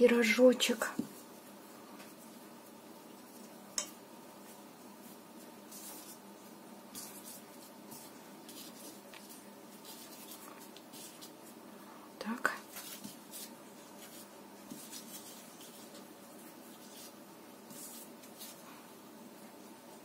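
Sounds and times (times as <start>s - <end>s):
hands rubbing and patting dough: 0.5s - 20.0s.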